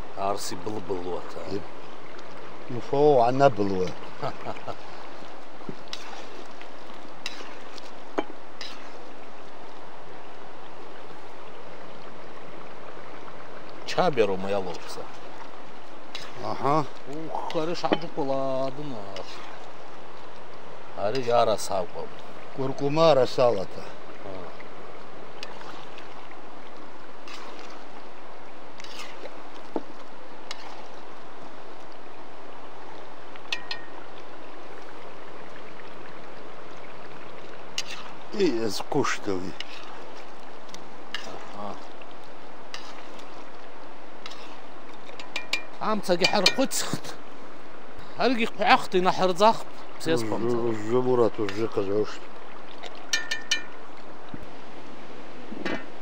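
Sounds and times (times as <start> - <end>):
river running: 0.0 - 56.0.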